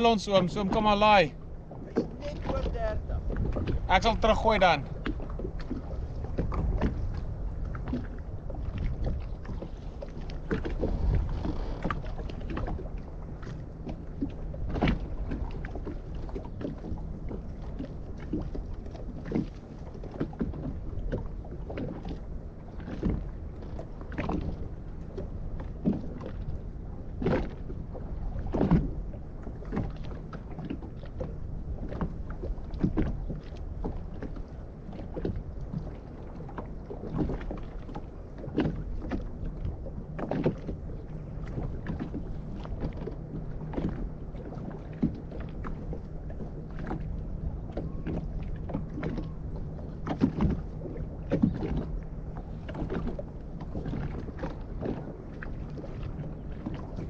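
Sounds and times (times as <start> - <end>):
water slapping against boat hull: 0.0 - 57.0
wind rumble on microphone: 0.0 - 57.0.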